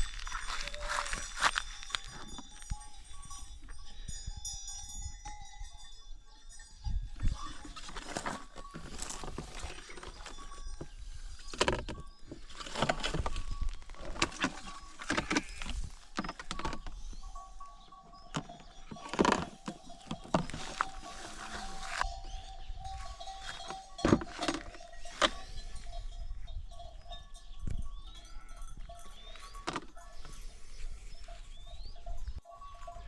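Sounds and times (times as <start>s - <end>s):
sheep bells clanking: 0.0s - 33.0s.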